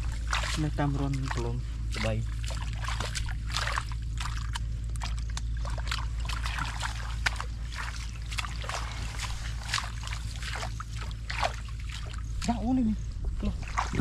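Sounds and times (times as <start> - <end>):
splashing in muddy water: 0.0 - 14.0
steady low rumble: 0.0 - 14.0.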